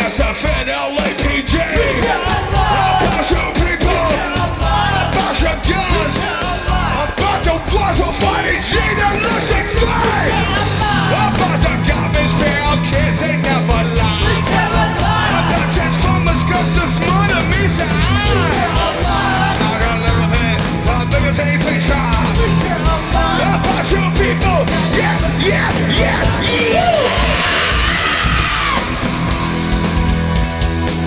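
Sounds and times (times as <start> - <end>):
singer yelling and singing: 0.0 - 29.8
live rock band playing: 0.0 - 31.0.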